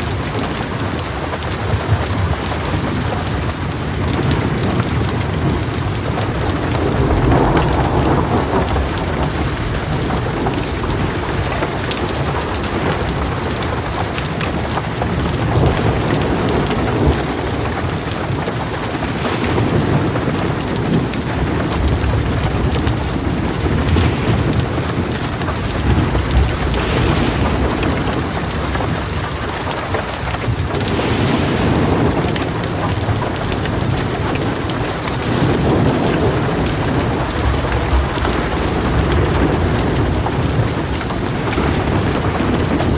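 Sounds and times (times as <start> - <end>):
heavy rain on a metal roof: 0.0 - 42.9
thunder rumbling: 0.0 - 42.9.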